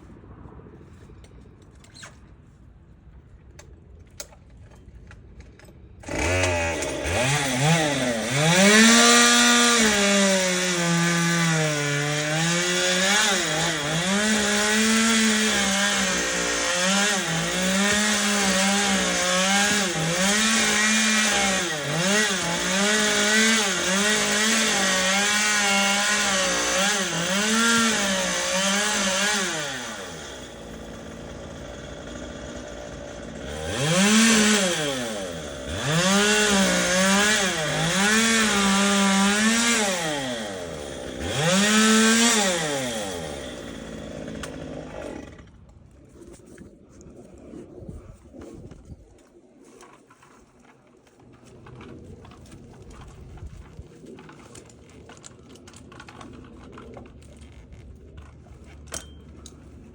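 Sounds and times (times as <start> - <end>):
chainsaw cutting: 6.0 - 47.7, 48.3 - 59.9.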